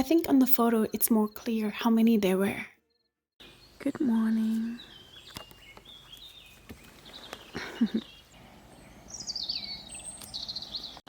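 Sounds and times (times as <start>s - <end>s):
wild birds singing: 0.0s - 2.6s, 3.4s - 11.0s.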